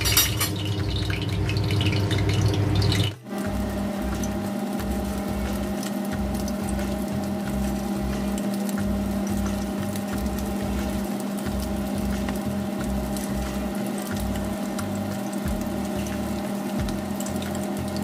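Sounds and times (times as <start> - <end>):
food deep-frying in oil: 0.0 - 18.0
low hum: 3.3 - 18.0.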